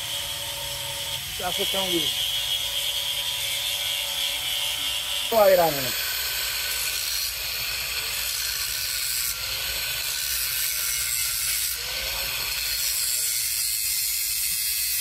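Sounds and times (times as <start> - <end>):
angle grinder cutting steel: 0.0 - 15.0.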